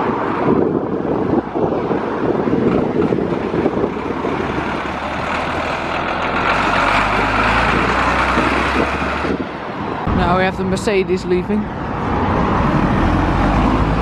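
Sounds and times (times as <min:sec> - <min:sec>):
vehicle engine humming: 0:00.0 - 0:14.0
wind noise on microphone: 0:00.0 - 0:14.0.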